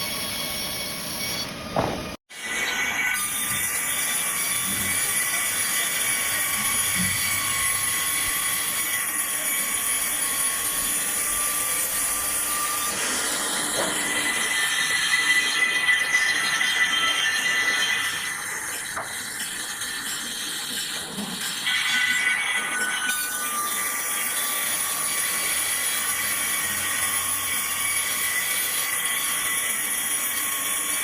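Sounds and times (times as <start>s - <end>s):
sawmill saw cutting log: 2.4s - 31.0s.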